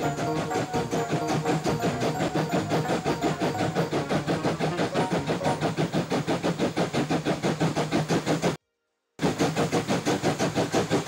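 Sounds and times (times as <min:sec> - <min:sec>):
railway engine chugging: 0:00.0 - 0:08.6, 0:09.2 - 0:11.0.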